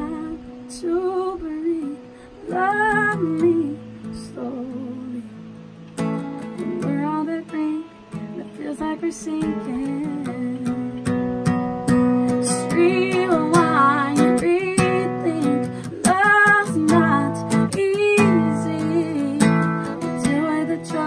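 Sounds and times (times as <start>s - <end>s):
woman singing: 0.0s - 5.7s, 6.4s - 21.0s
strummed acoustic guitar: 0.0s - 21.0s.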